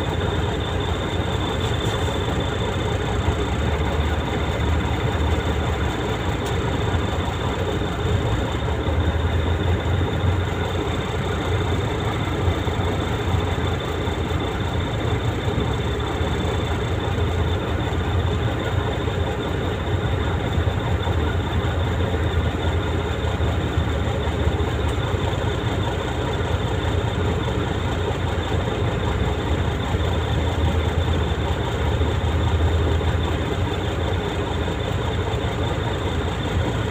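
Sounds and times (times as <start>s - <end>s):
truck diesel engine droning: 0.0s - 36.9s
truck rattle and road noise: 0.0s - 36.9s.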